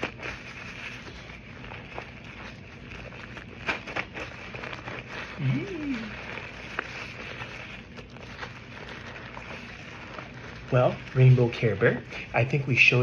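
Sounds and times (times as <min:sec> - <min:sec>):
slime squished by hand: 0:00.0 - 0:13.0.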